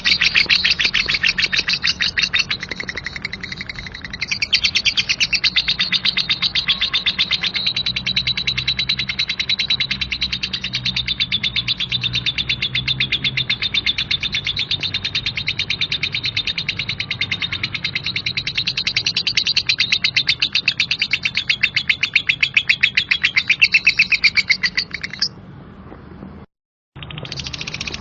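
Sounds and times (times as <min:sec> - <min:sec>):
lovebird chattering trill: 0:00.0 - 0:25.4, 0:27.0 - 0:28.0.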